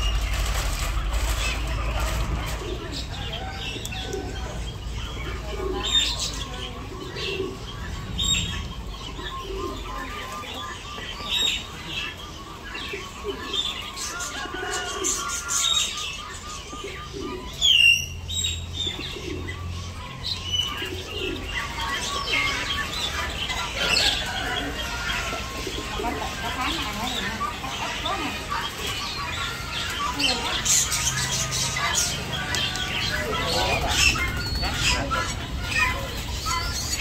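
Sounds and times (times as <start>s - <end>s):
birds chirping and calling: 0.0s - 37.0s.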